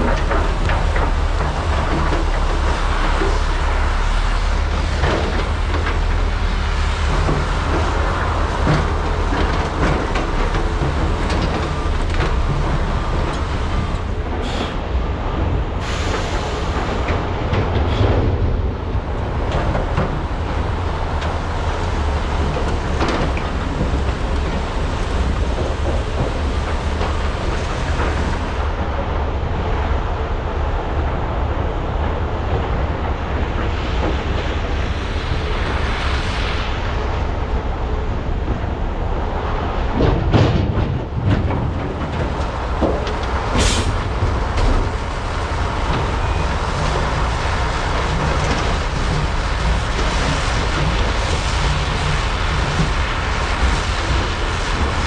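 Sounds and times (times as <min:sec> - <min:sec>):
excavator clatter: 0:00.0 - 0:29.9, 0:39.3 - 0:55.0
excavator engines rumbling: 0:00.0 - 0:55.0.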